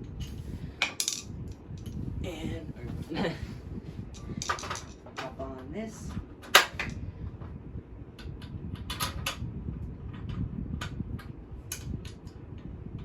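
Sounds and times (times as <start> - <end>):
low handling rumble: 0.0 - 13.0.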